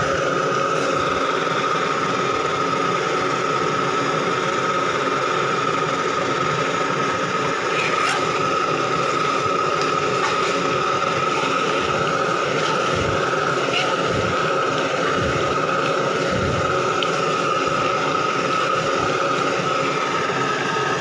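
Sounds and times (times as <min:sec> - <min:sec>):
mechanical drone with high whistle: 0:00.0 - 0:21.0.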